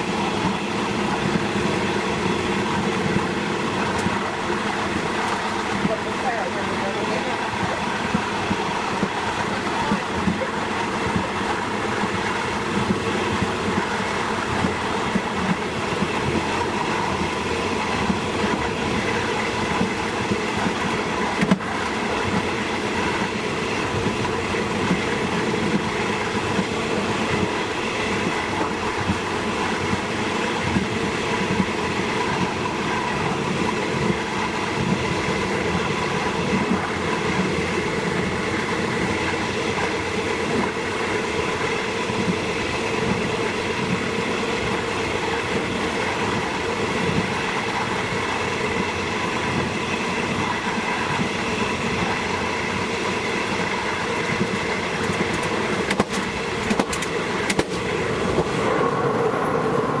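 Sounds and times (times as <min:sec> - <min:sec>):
rail joint clicks: 0:00.0 - 0:06.8, 0:07.4 - 1:00.0
train wheels rumbling on rail: 0:00.0 - 1:00.0.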